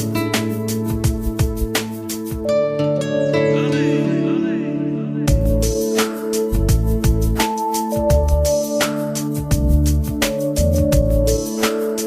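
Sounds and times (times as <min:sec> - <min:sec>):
synth music over steady beat: 0:00.0 - 0:04.1, 0:05.3 - 0:12.0.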